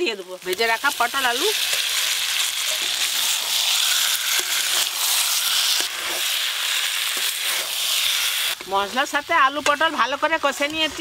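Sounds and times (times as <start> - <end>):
food sizzling in oil: 0.0 - 11.0
metal spatula scraping wok: 1.2 - 11.0.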